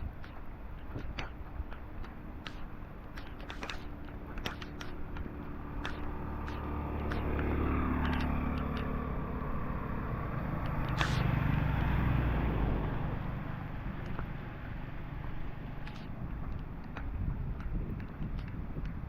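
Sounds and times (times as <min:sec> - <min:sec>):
sharp ticks: 0:00.0 - 0:12.2, 0:13.2 - 0:19.0
vehicles passing on street: 0:00.0 - 0:19.0.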